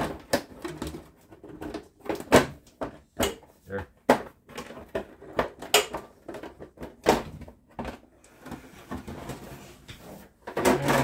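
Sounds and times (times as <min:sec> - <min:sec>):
plastic housing clacking and knocking: 0:00.0 - 0:09.3.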